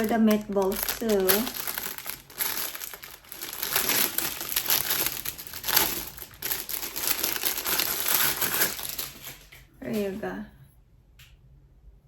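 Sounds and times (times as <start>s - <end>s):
packaging crinkling: 0.0s - 9.7s.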